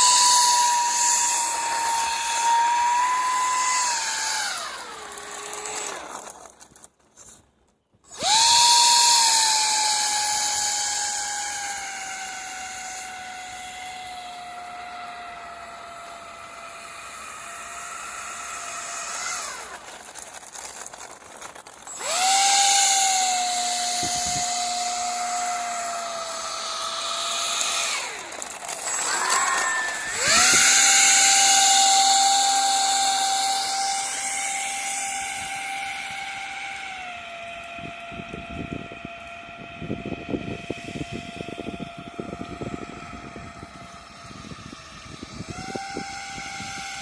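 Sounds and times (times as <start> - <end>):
small electric motor whining: 0.0 - 7.4, 8.1 - 47.0.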